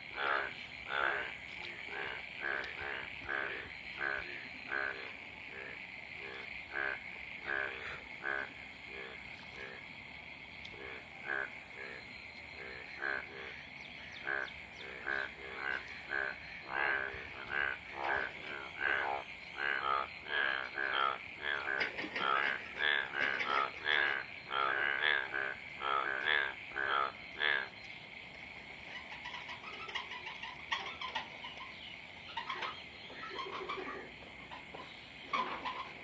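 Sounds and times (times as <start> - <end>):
frogs croaking: 0.0 - 36.0.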